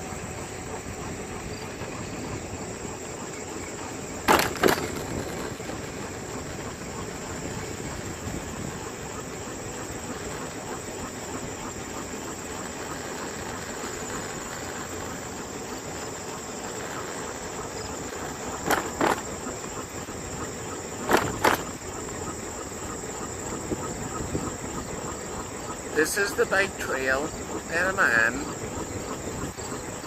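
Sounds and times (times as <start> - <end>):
constant rushing noise: 0.0 - 30.0
insects chirring: 0.0 - 30.0.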